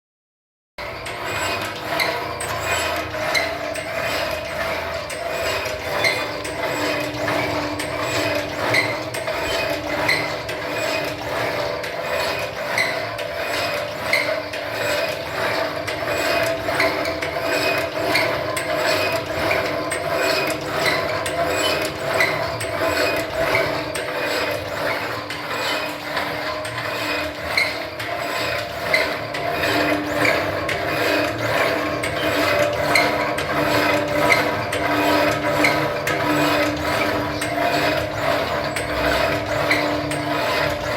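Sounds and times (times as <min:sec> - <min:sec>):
machine motor hum: 0:00.8 - 0:40.9.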